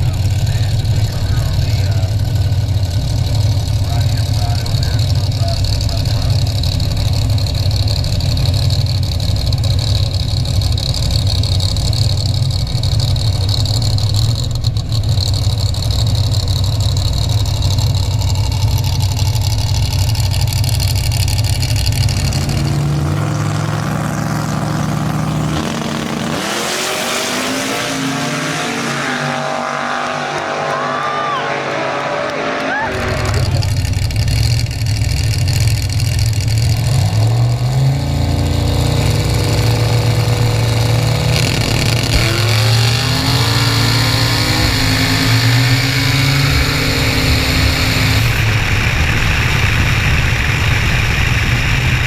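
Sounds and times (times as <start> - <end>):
car engine idling: 0.0 - 52.0
engine revving: 0.0 - 52.0.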